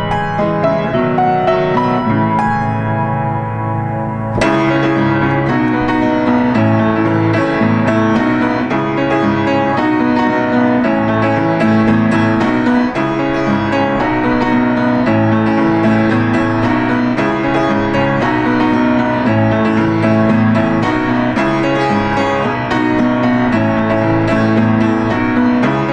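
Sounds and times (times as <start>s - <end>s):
gentle piano music: 0.0s - 25.9s.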